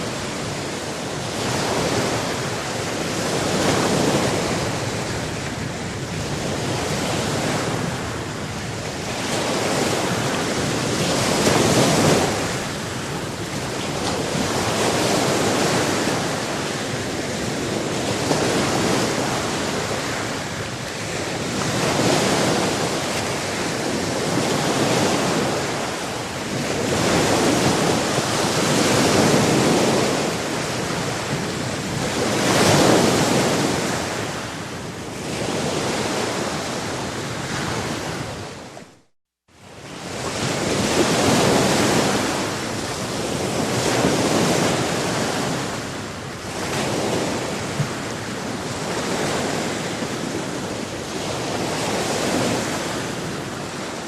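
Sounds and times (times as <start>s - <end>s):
sea waves breaking on shore: 0.0s - 54.0s
wind: 0.0s - 54.0s.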